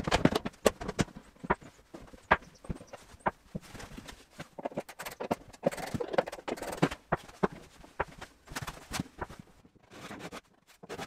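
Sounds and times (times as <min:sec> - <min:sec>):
wood scraping and rubbing: 0:00.0 - 0:11.0.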